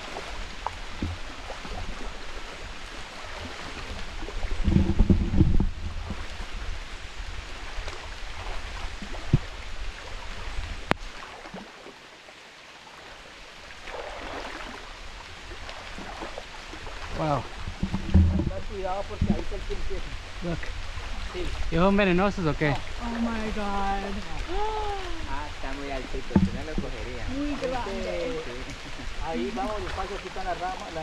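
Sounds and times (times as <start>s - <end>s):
people wading through water: 0.0s - 31.0s.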